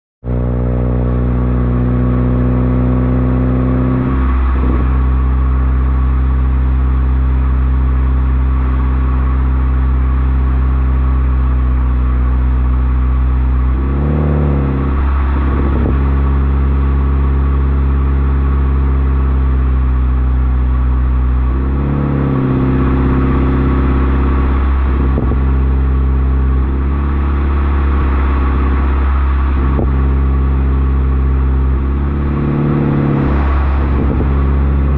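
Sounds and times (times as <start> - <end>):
car engine droning while driving: 0.2 - 34.9.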